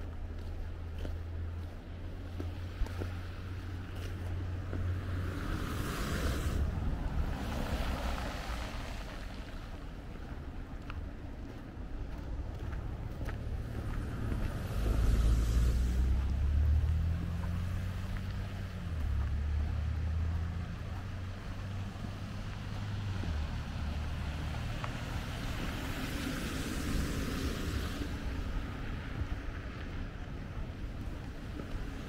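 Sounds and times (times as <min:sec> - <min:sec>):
motor vehicle engine hum: 0:00.0 - 0:32.0.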